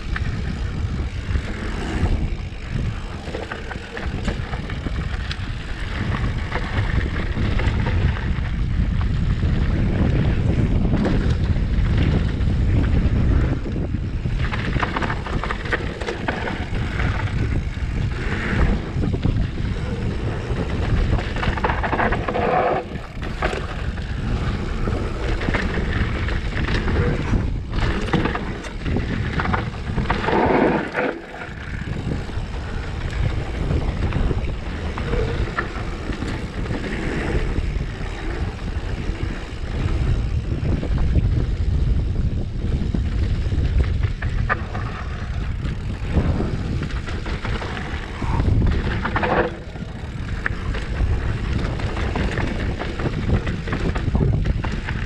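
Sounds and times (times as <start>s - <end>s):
bike clicks and rattles: 0.0s - 55.0s
bike tyres rolling on dirt: 0.0s - 55.0s
wind buffeting microphone: 0.0s - 55.0s.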